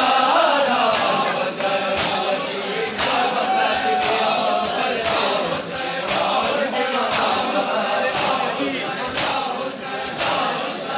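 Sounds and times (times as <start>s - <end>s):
crowd of men chanting: 0.0s - 10.9s.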